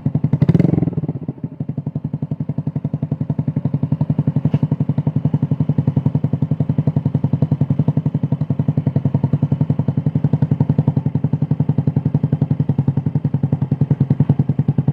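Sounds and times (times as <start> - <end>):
scooter engine idling: 0.0 - 14.9.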